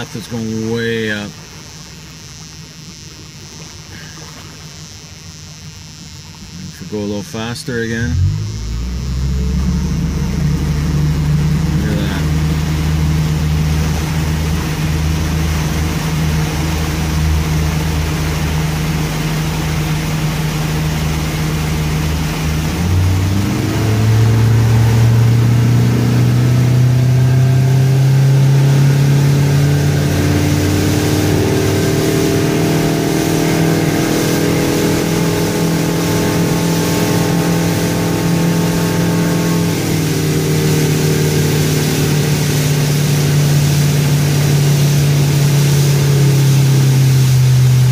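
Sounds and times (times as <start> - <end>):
boat engine revving up: 0.0 - 47.9.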